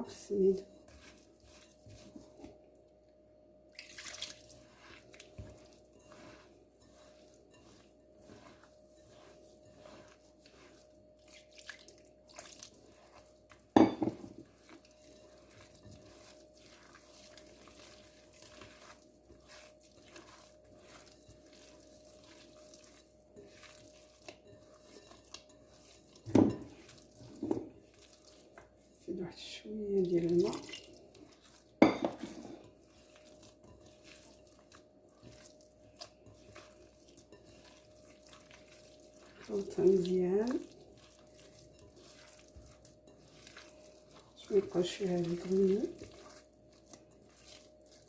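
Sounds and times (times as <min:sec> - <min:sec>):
hands mixing grains in a bowl: 0:00.0 - 0:48.0.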